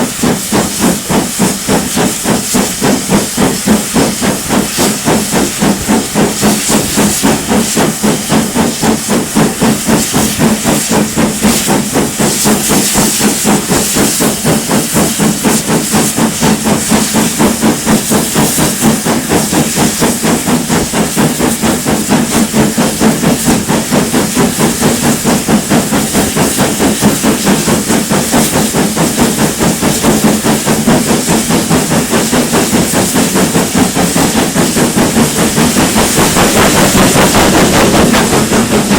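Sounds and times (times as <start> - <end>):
hiss of steam: 0.0 - 38.9
steam locomotive exhaust beats: 0.0 - 38.9.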